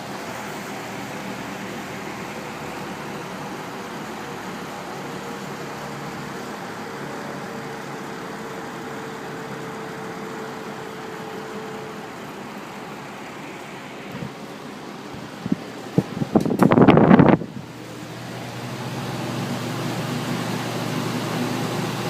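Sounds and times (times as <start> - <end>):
box fan running: 0.0 - 22.0.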